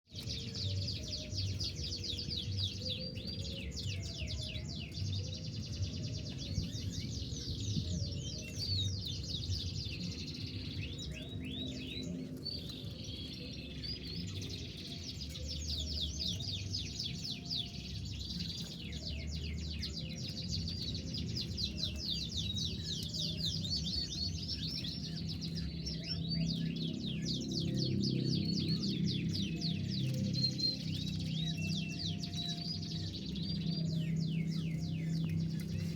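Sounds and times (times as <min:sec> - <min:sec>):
canary singing trills: 0:00.1 - 0:35.9
low background hum: 0:00.1 - 0:35.9.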